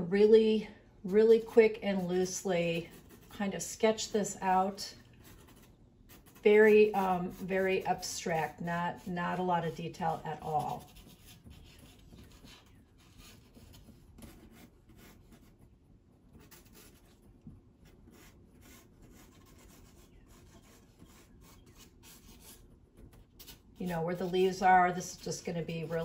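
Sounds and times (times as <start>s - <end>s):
pencil scratching on paper: 1.1s - 4.1s, 5.2s - 15.7s, 16.3s - 26.0s.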